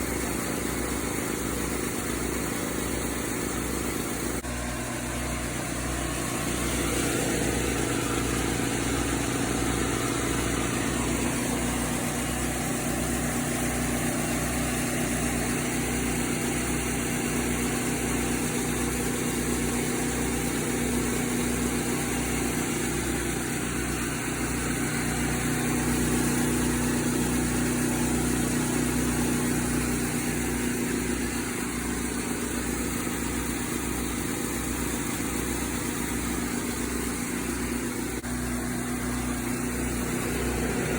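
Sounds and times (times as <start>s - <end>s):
air compressor running: 0.0s - 40.9s.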